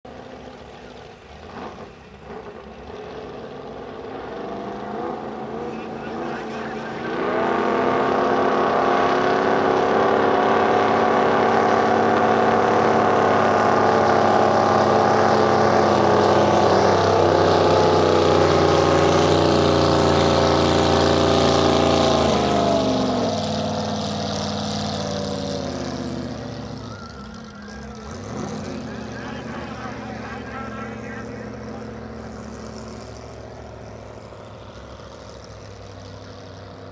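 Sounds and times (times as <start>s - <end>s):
jet boat engine running: 0.1s - 36.9s.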